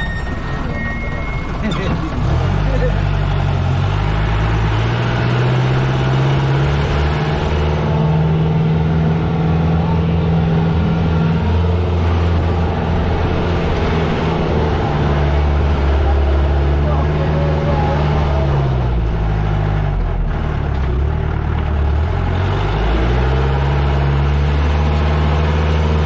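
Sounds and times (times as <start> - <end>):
jeep engine running under load: 0.0 - 26.0.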